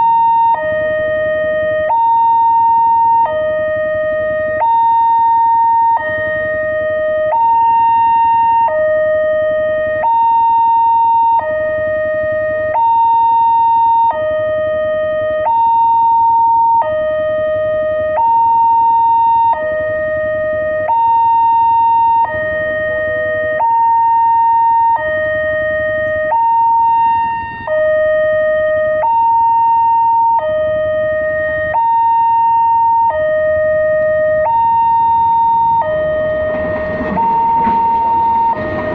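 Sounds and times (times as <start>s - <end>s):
two-tone warning siren wail: 0.0s - 38.9s.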